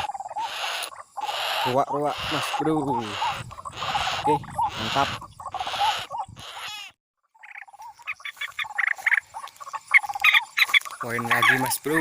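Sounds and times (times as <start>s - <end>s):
harsh croaking bird calls: 0.0s - 12.0s.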